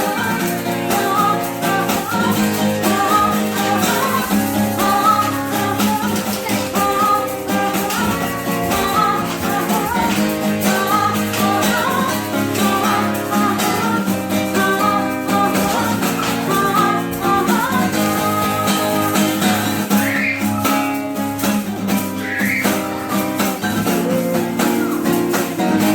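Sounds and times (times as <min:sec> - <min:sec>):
acoustic guitar playing: 0:00.0 - 0:25.9
person singing: 0:00.0 - 0:25.9.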